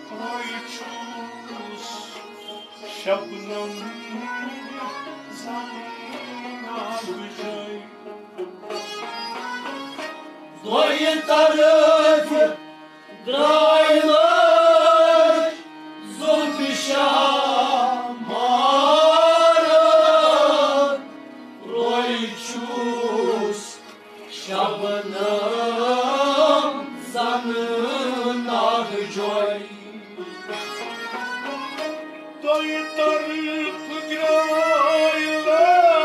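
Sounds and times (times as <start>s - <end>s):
men singing: 0.0s - 7.9s, 10.6s - 12.6s, 13.2s - 30.2s, 32.4s - 36.0s
harmonium accompaniment: 0.0s - 36.0s.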